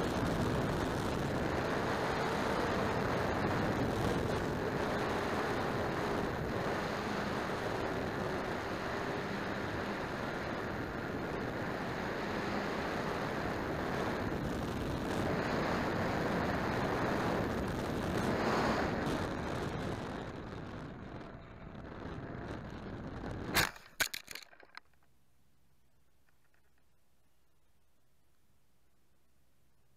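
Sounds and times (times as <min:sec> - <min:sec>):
wind rushing over camera: 0:00.0 - 0:24.5.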